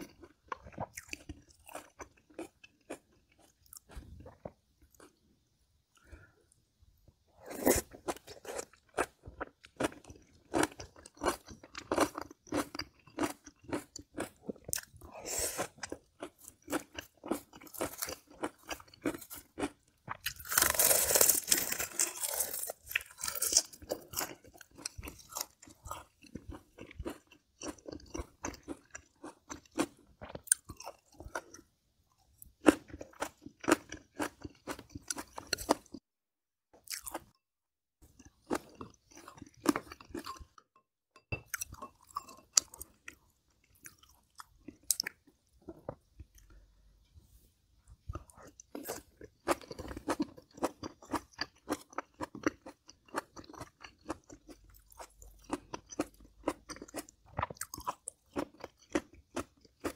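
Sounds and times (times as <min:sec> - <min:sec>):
person chewing and crunching food: 0:00.0 - 0:36.1, 0:36.7 - 0:37.4, 0:38.0 - 0:59.9.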